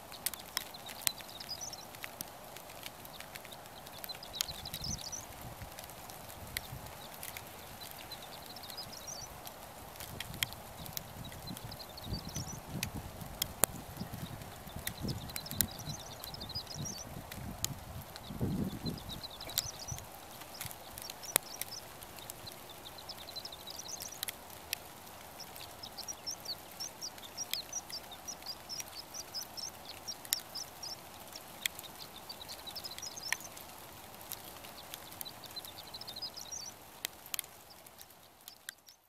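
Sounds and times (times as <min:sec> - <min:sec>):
songbirds twittering: 0:00.0 - 0:39.0
sharp clicks: 0:00.1 - 0:39.0.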